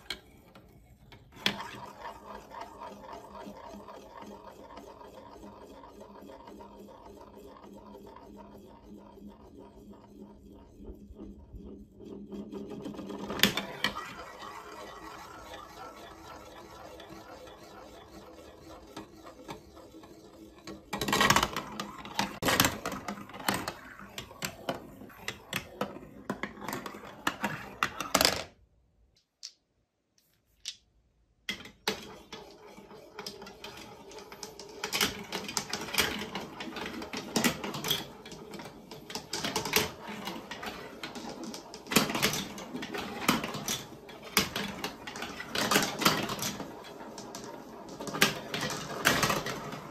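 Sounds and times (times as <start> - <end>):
marbles clicking along tracks: 0.0 - 10.7, 12.0 - 28.4, 31.5 - 49.9
marble rolling in spiral funnel: 0.0 - 28.5, 31.5 - 49.9.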